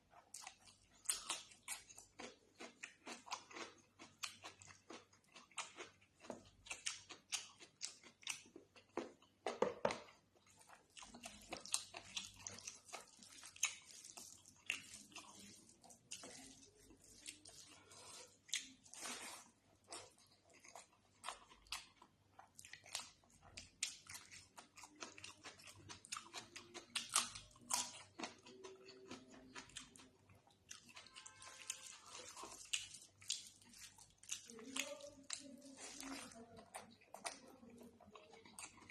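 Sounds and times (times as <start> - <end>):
chewing and biting: 0.1 - 38.9.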